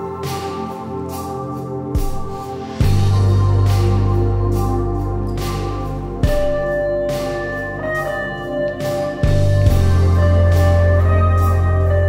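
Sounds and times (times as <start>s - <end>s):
sustained music tones: 0.0s - 12.0s.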